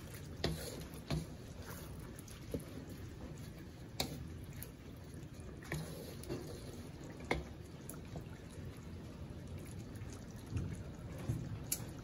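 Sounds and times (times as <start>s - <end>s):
liquid sloshing in wok: 0.0s - 12.0s.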